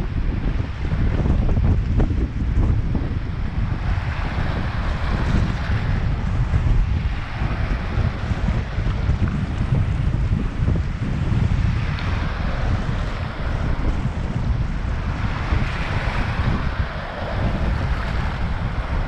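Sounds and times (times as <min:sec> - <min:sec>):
waves washing on beach: 0:00.0 - 0:19.0
wind buffeting microphone: 0:00.0 - 0:19.0.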